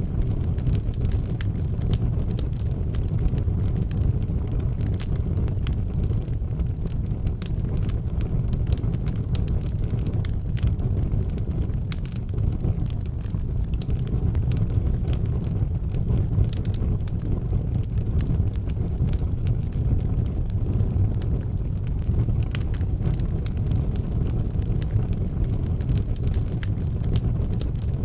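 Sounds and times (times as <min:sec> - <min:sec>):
fire crackling and popping: 0:00.0 - 0:28.0
low rumble: 0:00.0 - 0:28.0.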